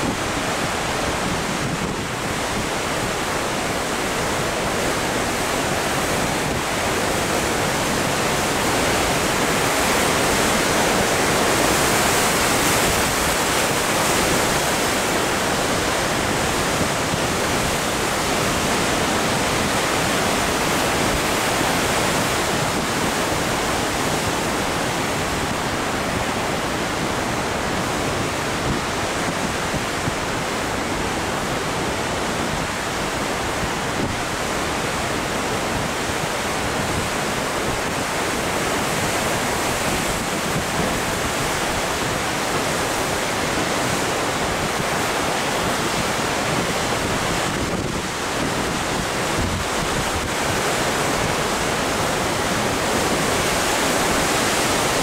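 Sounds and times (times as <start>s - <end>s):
ocean surf breaking on rocks: 0.0s - 55.0s.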